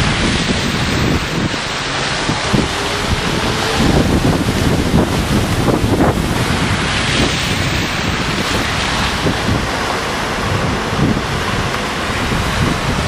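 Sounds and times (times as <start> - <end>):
cars splashing through floodwater: 0.0 - 13.0
low engine rumble: 0.0 - 13.0.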